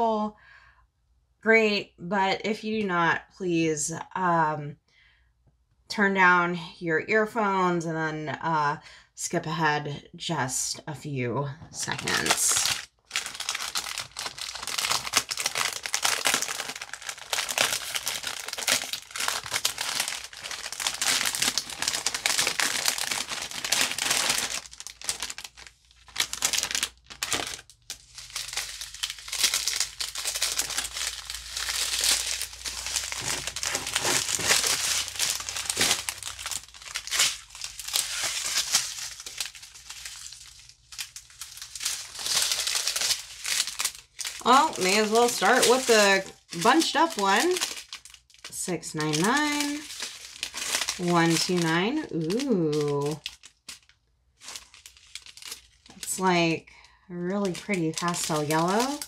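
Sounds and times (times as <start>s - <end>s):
plastic packaging crinkling: 11.7s - 59.0s.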